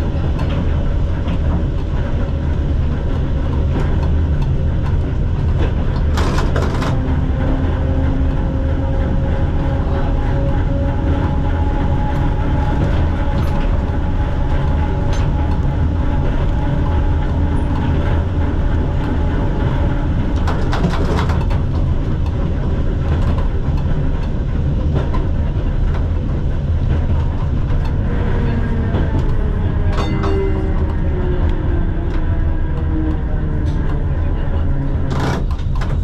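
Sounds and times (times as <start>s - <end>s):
tram rumbling on track: 0.0s - 36.0s.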